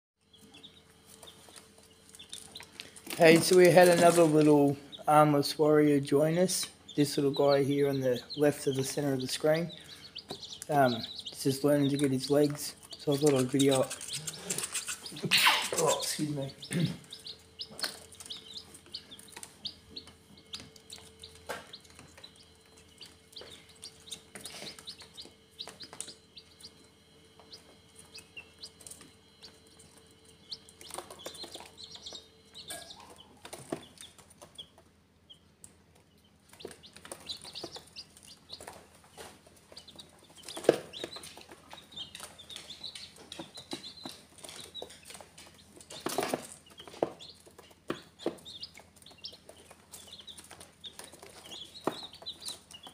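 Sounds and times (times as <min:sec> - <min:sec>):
chicks peeping: 0:00.2 - 0:52.9.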